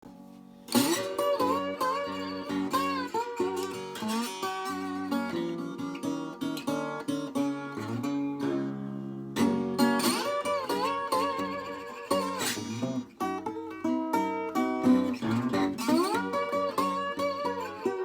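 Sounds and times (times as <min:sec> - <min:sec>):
acoustic guitar plucked: 0:00.1 - 0:18.0.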